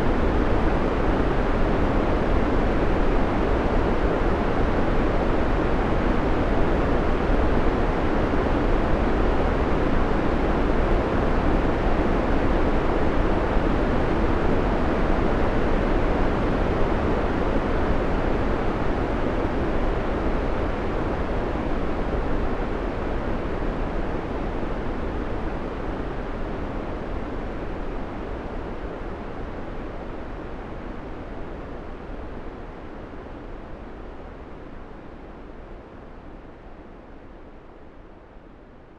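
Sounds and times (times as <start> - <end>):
white noise rush: 0.0 - 38.9.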